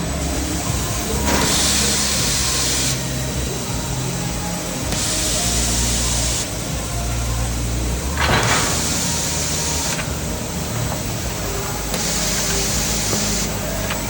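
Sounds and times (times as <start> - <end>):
machine hiss: 0.0 - 14.0
machine hum: 0.0 - 14.0.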